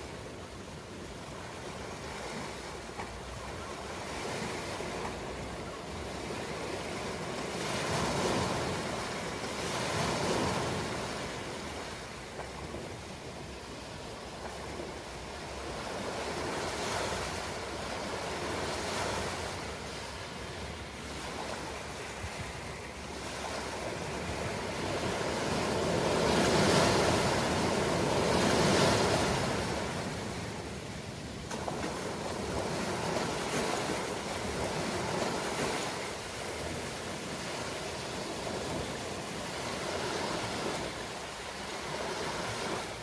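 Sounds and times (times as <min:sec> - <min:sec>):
ocean waves rolling in: 0:00.0 - 0:43.0.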